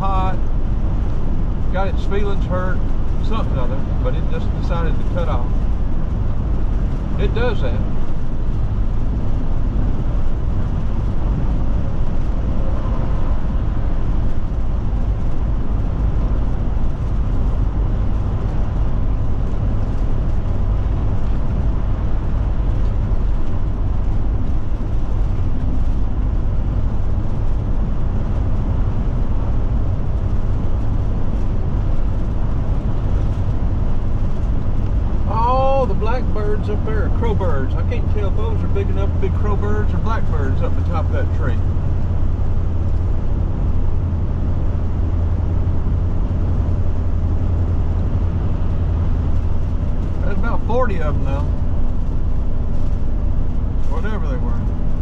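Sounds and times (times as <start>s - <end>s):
road and engine noise in cab: 0.0s - 55.0s.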